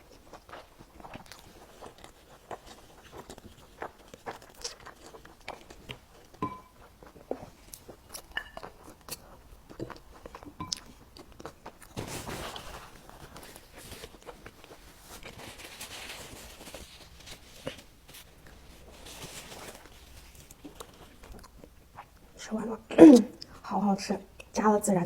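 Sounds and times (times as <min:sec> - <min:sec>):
person chewing food: 0:00.0 - 0:12.0, 0:12.6 - 0:22.4.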